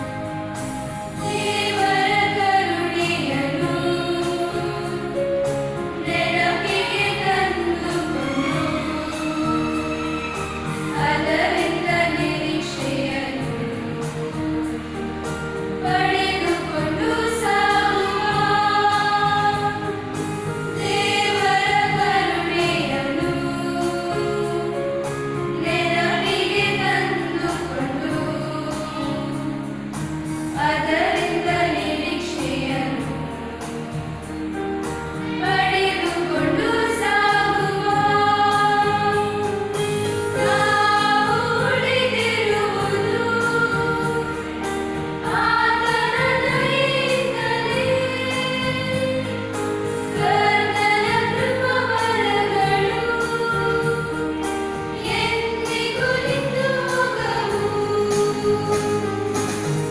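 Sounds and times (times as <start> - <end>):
electronic keyboard: 0.0 - 59.9
girls choir singing a hymn: 0.0 - 59.9.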